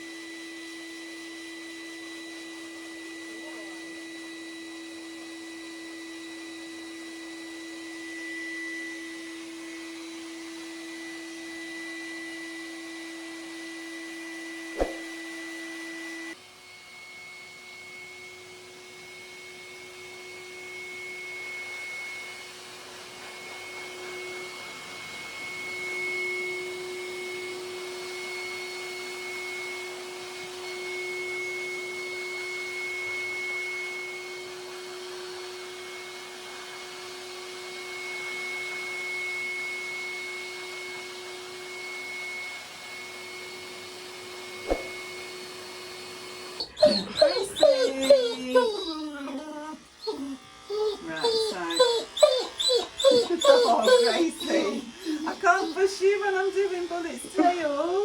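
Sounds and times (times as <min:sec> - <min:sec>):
pet dryer motor whine: 0:00.0 - 0:58.0.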